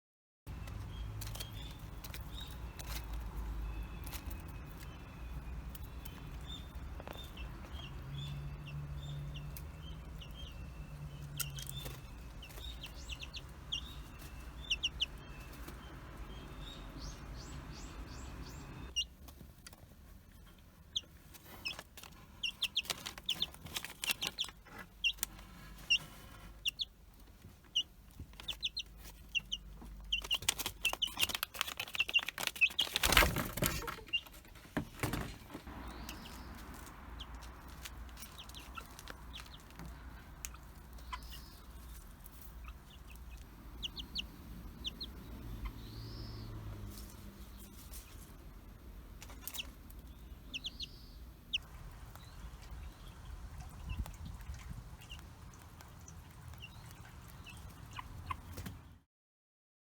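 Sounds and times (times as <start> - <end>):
chicks peeping: 0.6 - 19.1, 20.3 - 59.0.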